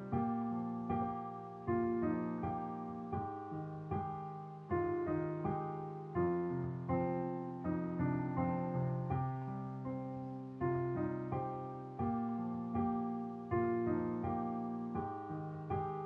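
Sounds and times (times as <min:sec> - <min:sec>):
slow piano melody with bass chords: 0:00.0 - 0:16.0.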